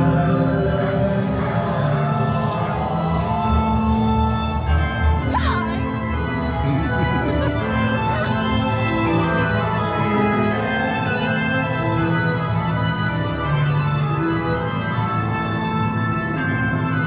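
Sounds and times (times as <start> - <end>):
organ playing sustained chords: 0.0 - 17.0.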